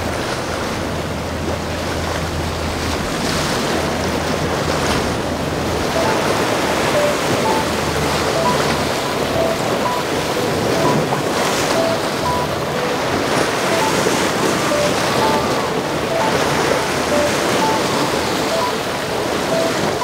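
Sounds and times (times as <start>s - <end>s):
rough sea water breaking: 0.0s - 20.0s.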